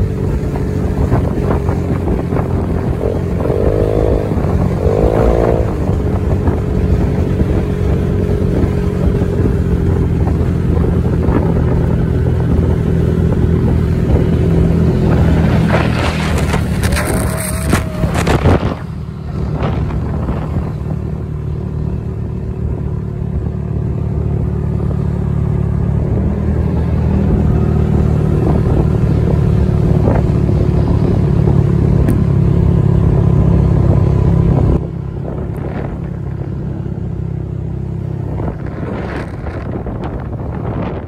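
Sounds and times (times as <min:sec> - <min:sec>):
motorcycle engine running: 0:00.0 - 0:41.0
wind on microphone: 0:00.0 - 0:41.0.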